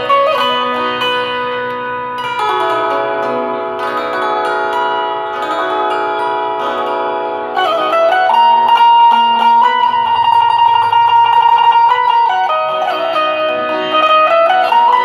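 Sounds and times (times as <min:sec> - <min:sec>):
keyed string zither playing: 0:00.0 - 0:15.0.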